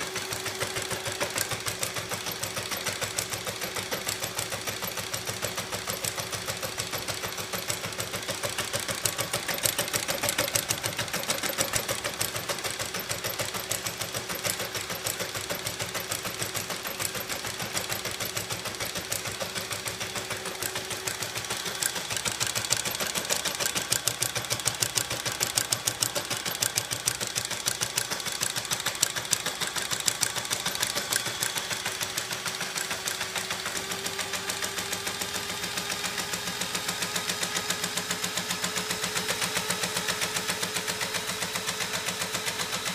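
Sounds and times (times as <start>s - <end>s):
rapid clatter of metal parts: 0.0s - 42.9s.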